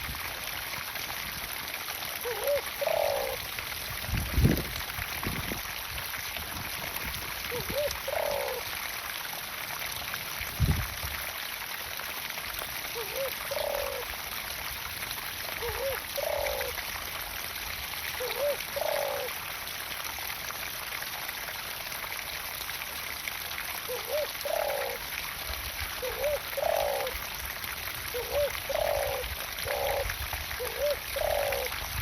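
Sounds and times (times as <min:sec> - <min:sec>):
water pouring into a pond: 0:00.0 - 0:32.0.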